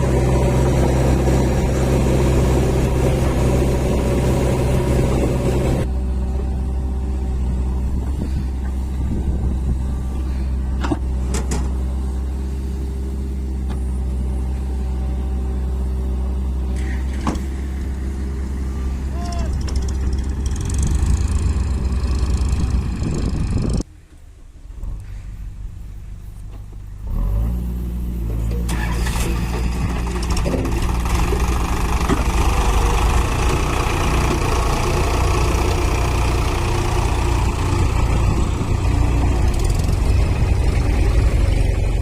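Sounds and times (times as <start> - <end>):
heavy vehicle engine running: 0.0 - 24.0, 24.7 - 42.0.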